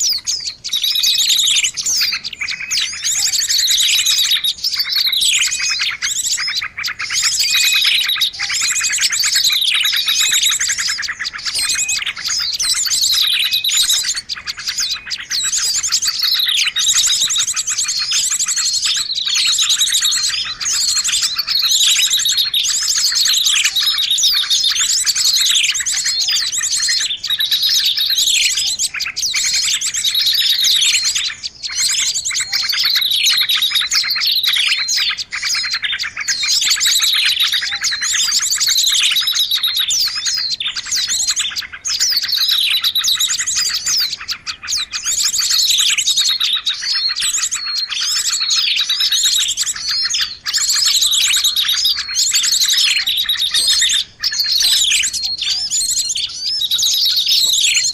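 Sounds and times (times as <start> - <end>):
songbirds chirping and twittering: 0.0 - 57.9.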